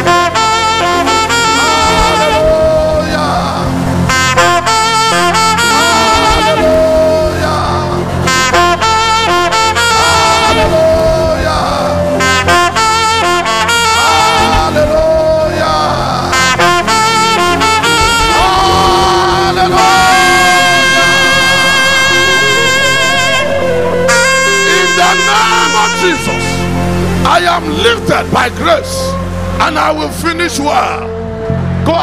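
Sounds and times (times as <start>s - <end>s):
saxophone playing: 0.0s - 31.7s
low musical backing: 0.0s - 32.0s.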